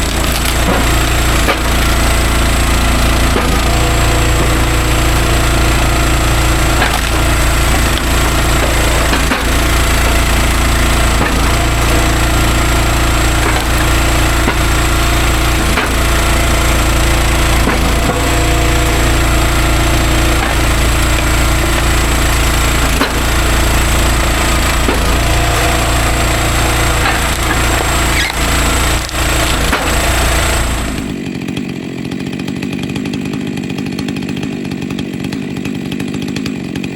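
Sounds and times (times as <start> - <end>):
chainsaw cutting logs: 0.0 - 36.9.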